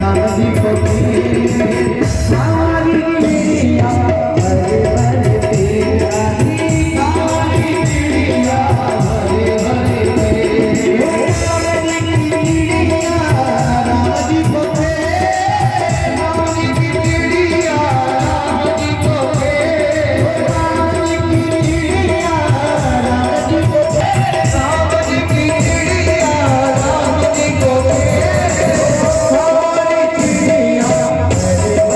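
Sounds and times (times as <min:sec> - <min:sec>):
percussion beat: 0:00.0 - 0:31.9.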